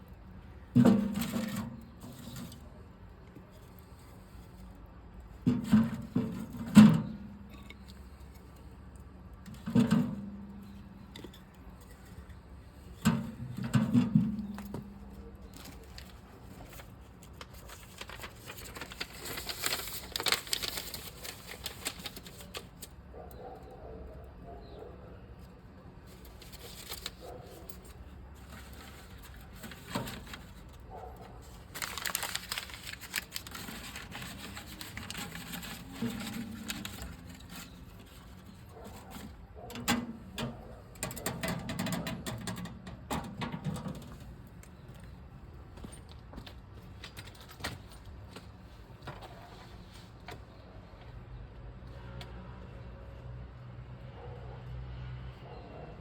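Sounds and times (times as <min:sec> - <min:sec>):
rustling and crinkling: 0:00.6 - 0:23.6, 0:26.0 - 0:51.2.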